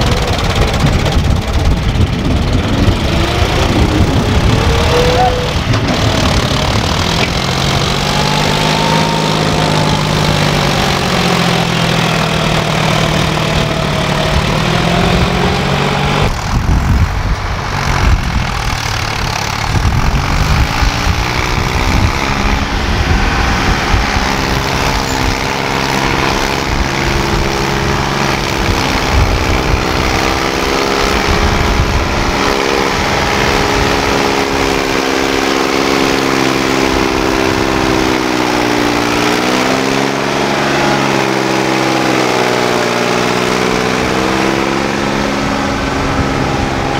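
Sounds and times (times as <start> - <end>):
tractor engines labouring: 0.0 - 46.9.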